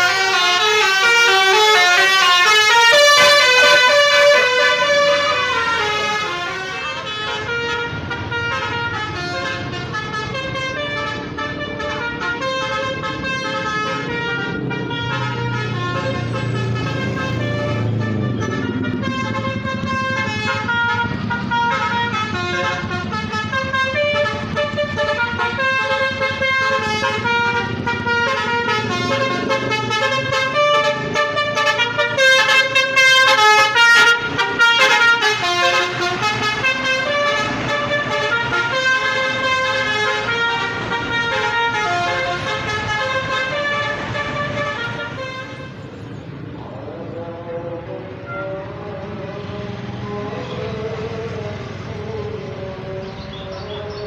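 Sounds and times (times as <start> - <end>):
bus horn playing a melody: 0.0 - 46.2, 47.8 - 51.4.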